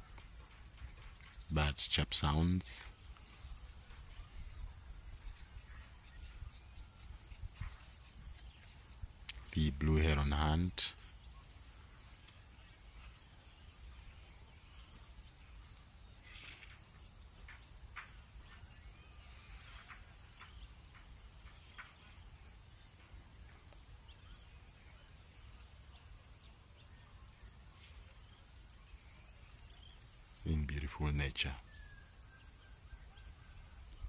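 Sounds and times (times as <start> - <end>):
cricket chirping: 0.0 - 34.0
insects droning high-pitched: 0.0 - 34.0.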